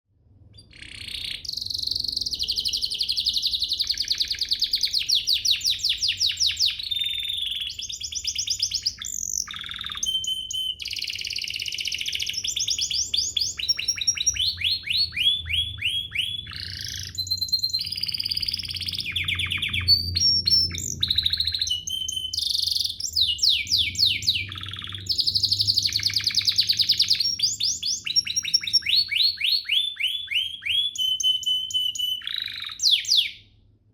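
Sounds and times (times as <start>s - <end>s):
canary singing trills: 0.5s - 33.6s.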